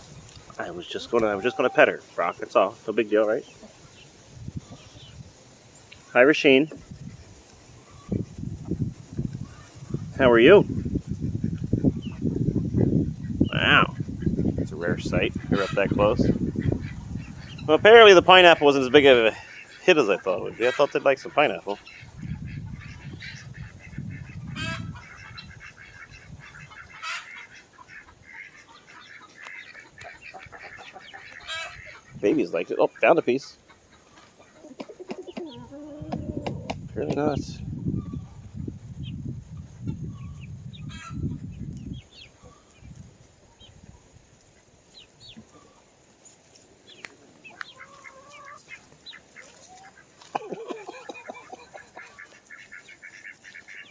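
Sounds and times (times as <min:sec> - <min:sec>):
chickens clucking and peeping: 0:00.0 - 0:53.9.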